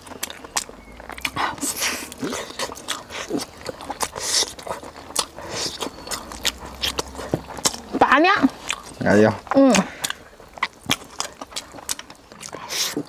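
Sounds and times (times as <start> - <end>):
lip smacking clicks: 0.0 - 7.9, 9.7 - 13.0
biting and chewing meat: 0.0 - 13.0.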